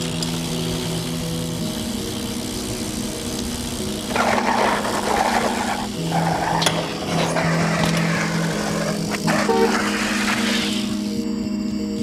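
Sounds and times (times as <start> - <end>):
background music with low notes: 0.0 - 12.0.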